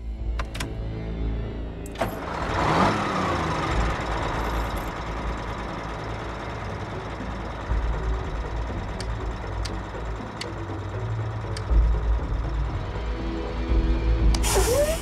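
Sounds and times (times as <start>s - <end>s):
diesel truck engine running: 0.2s - 15.0s.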